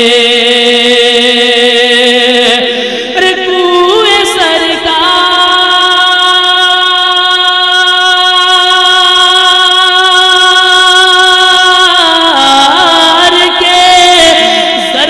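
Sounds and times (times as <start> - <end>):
man singing a long sustained note: 0.0 - 15.0.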